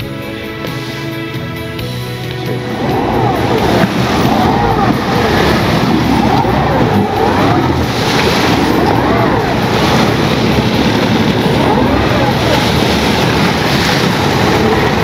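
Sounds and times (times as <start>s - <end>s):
speedboat engine running: 1.7s - 15.0s
water and wind rushing: 1.9s - 15.0s.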